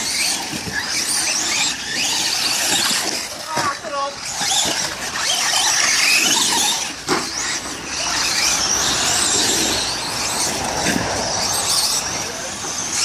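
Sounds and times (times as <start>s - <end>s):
remote control car whine: 0.0s - 13.0s.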